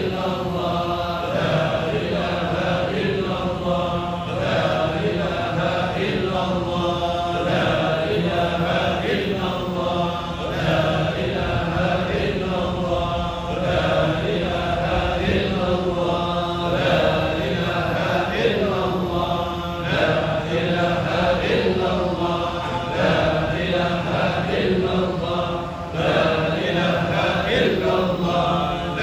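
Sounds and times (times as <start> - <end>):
congregation chanting in unison: 0.0 - 29.0.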